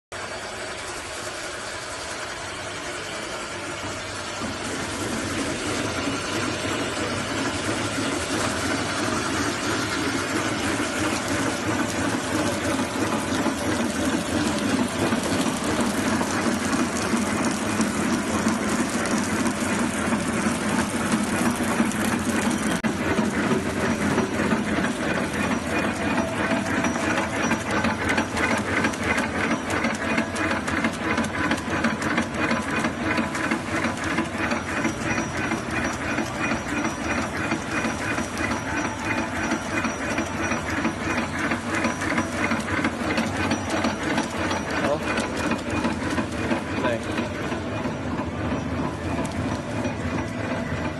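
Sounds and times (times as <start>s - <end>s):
fast even machine clatter: 0.2s - 50.9s
machine hum and hiss: 0.2s - 50.9s.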